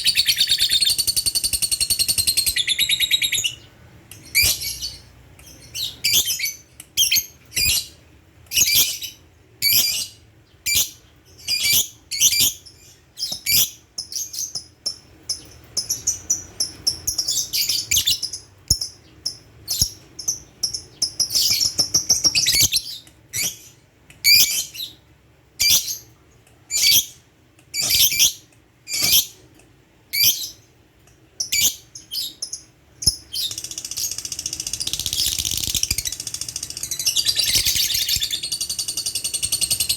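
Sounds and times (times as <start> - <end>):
lovebird chirping: 0.0 - 7.9, 8.5 - 24.9, 31.4 - 39.9.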